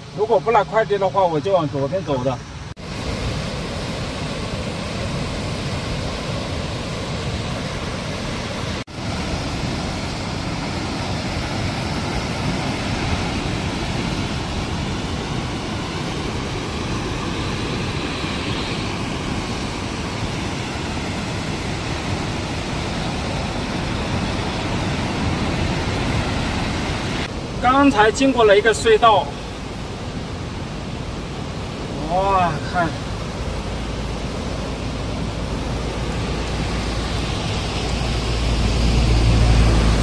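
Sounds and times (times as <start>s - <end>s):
fast-flowing river rushing: 0.0s - 40.0s
road and wind noise: 0.0s - 40.0s.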